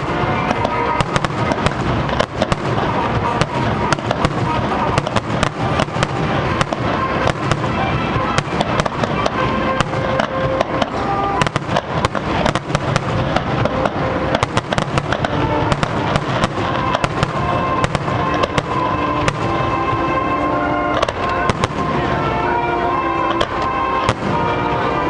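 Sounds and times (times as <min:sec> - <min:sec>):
constant rumble: 0:00.0 - 0:25.0
fireworks bangs and cracks: 0:00.0 - 0:25.0.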